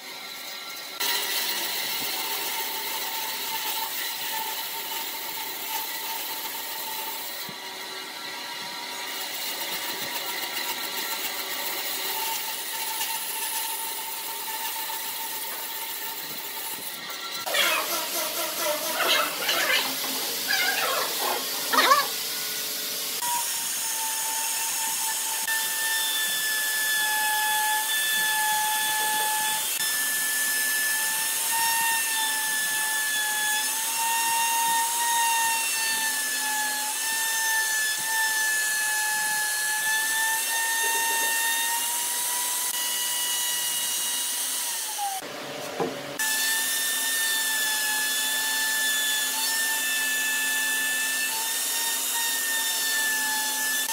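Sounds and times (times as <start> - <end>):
router cutting wood: 0.0 - 53.9.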